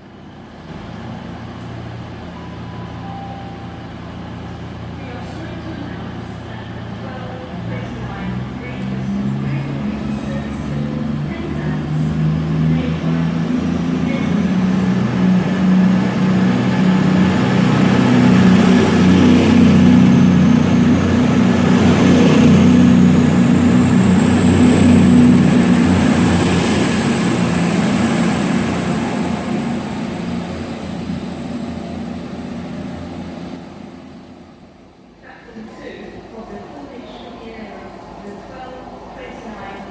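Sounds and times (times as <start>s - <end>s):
diesel train passing: 0.0s - 39.9s.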